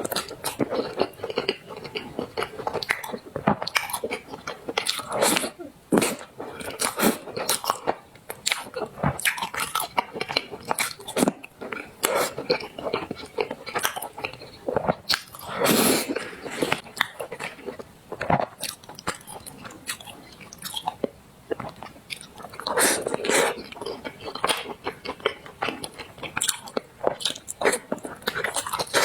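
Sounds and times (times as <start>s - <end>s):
close chewing and mouth smacks: 0.0s - 29.0s.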